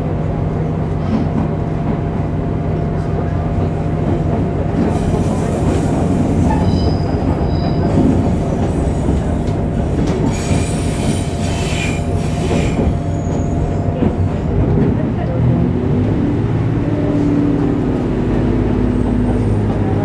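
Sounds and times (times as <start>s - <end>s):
railcar rumble with motor tone: 0.0s - 20.0s.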